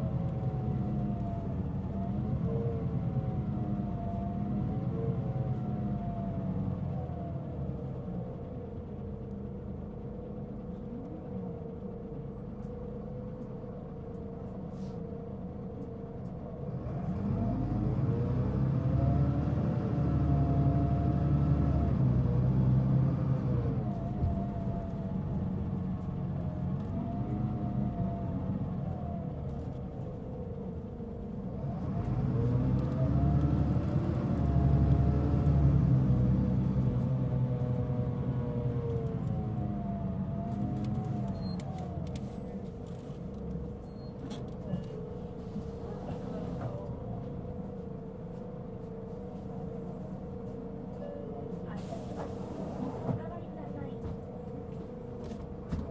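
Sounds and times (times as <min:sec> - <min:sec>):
bus diesel engine: 0:00.0 - 0:55.9.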